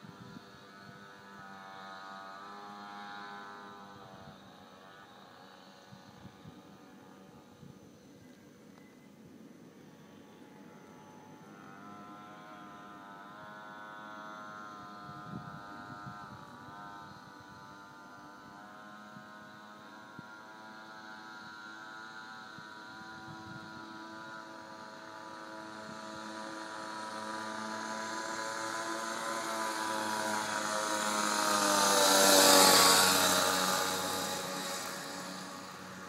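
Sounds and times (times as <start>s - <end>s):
small motorbike engine approaching: 0.0s - 36.0s.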